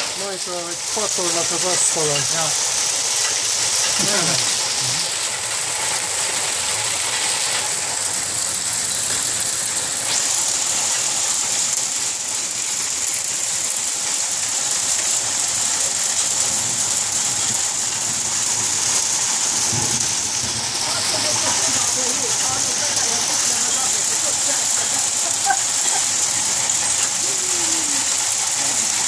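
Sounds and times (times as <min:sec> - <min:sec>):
hail and heavy rain pelting: 0:00.0 - 0:29.0.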